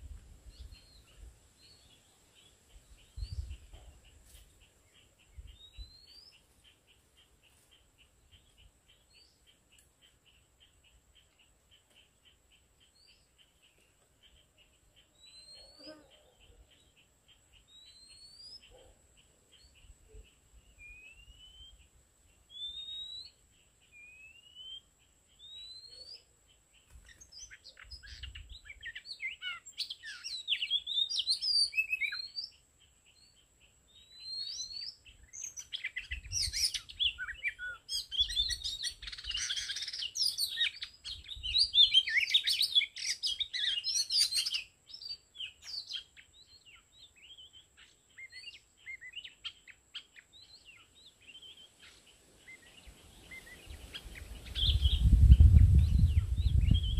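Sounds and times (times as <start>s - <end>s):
birds whistling and trilling: 0.5s - 56.9s.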